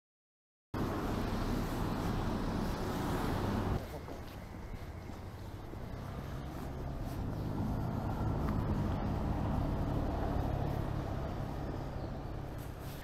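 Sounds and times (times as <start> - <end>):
motor vehicle passing: 0.8 - 13.0.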